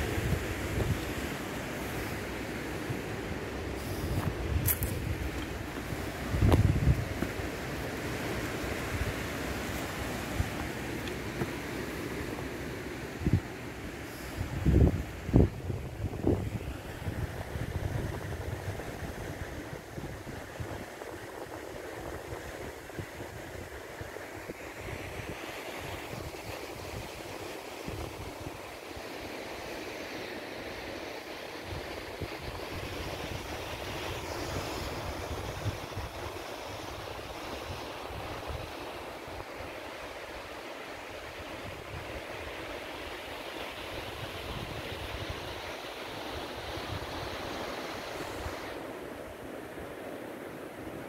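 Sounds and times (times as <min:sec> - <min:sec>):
wind buffeting the microphone: 0:00.0 - 0:12.4, 0:13.1 - 0:13.6, 0:14.3 - 0:28.7, 0:31.6 - 0:39.7, 0:43.8 - 0:50.0
ocean waves breaking on shore: 0:00.0 - 0:51.0.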